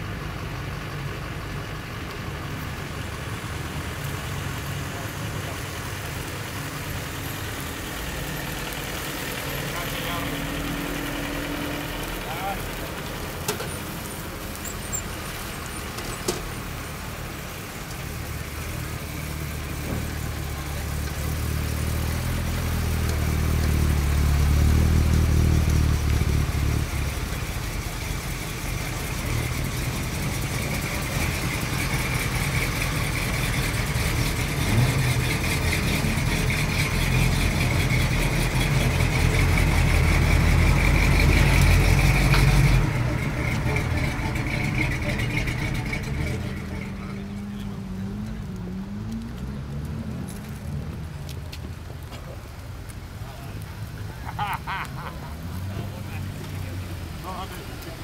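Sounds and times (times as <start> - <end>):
car engines rumbling past: 0.0 - 58.0.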